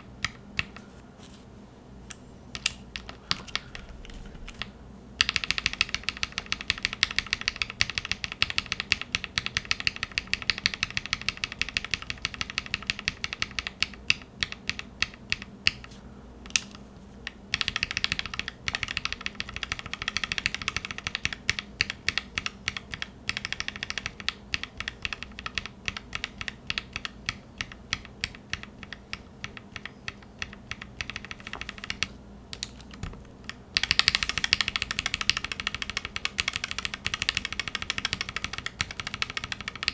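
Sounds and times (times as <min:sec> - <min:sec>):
mechanical keyboard typing: 0:02.5 - 0:15.9, 0:16.5 - 0:39.9.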